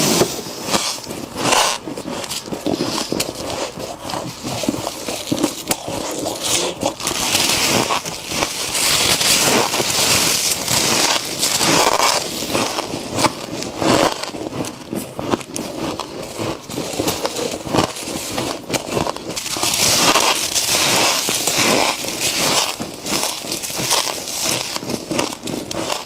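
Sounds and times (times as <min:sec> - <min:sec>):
frost crunching and scraping: 0:00.0 - 0:26.0.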